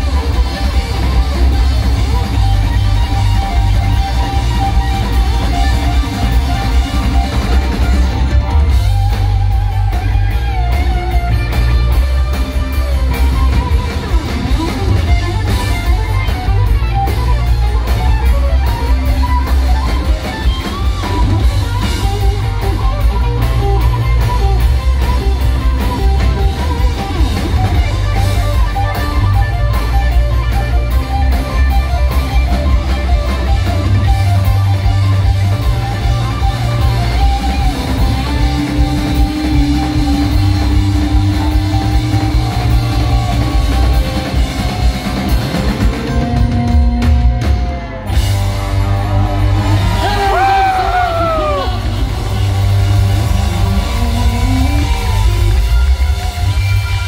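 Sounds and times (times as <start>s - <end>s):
electric lead guitar: 0.0s - 57.0s
rock band playing: 0.0s - 57.0s.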